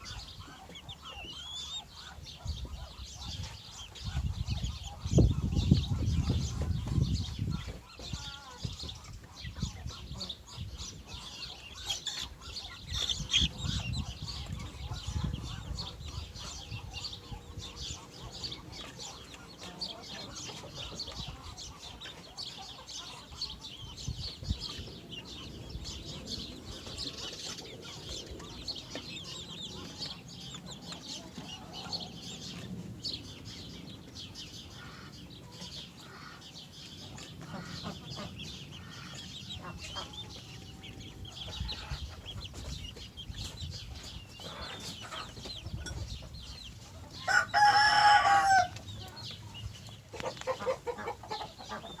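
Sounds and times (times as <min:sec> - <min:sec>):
chickens clucking: 0:00.0 - 0:52.0.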